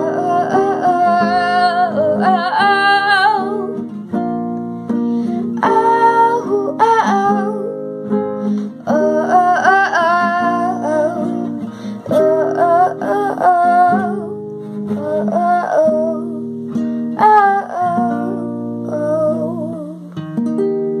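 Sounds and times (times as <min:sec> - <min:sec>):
woman singing: 0:00.0 - 0:04.2, 0:05.3 - 0:20.2
strummed acoustic guitar: 0:00.0 - 0:21.0.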